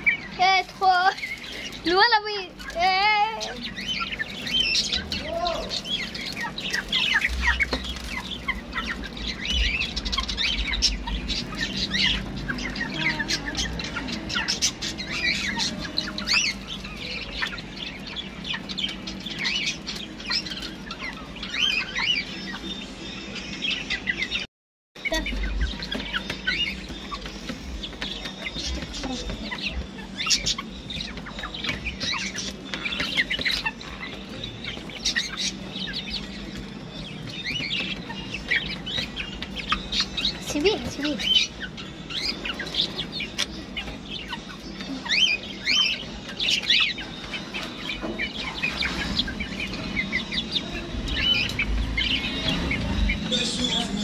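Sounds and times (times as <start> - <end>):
hens clucking: 0.0 - 22.8, 25.0 - 54.0
hens pecking feed: 0.0 - 24.3, 25.0 - 54.0.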